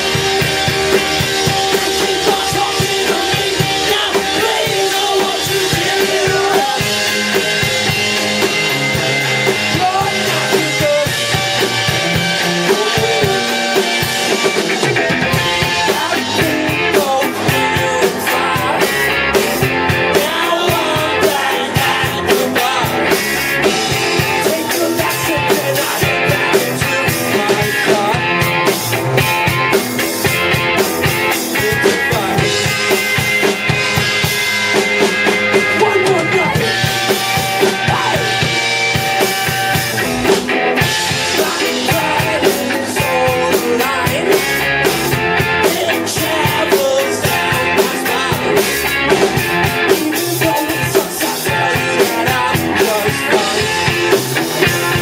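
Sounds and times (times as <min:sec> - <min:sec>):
person singing: 0:00.0 - 0:28.8, 0:31.0 - 0:33.0, 0:35.5 - 0:39.8, 0:40.8 - 0:55.0
drum kit: 0:00.0 - 0:55.0
electric guitar: 0:00.0 - 0:55.0.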